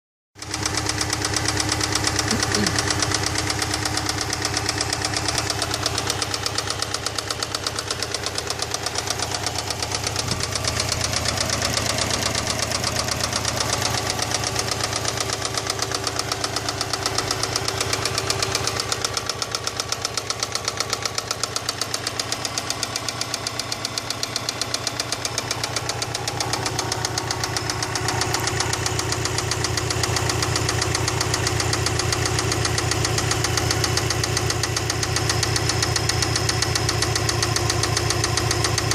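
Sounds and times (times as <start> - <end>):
engine running with rhythmic knock: 0.4 - 38.9.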